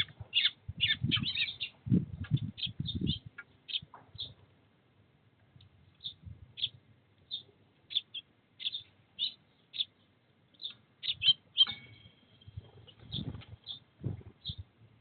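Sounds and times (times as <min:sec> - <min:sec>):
sparrow chirping: 0:00.0 - 0:04.4, 0:05.9 - 0:14.7.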